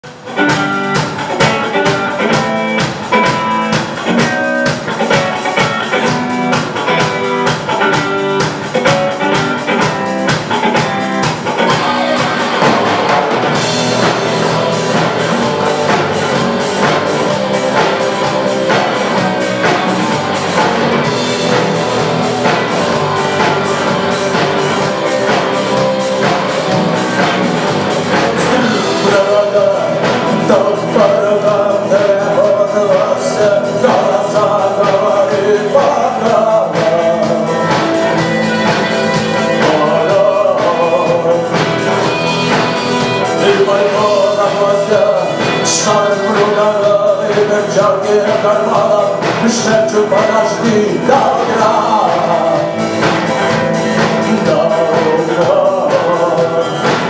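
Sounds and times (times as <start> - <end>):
drum kit beat: 0.0 - 57.0
electric guitar lines: 0.0 - 57.0.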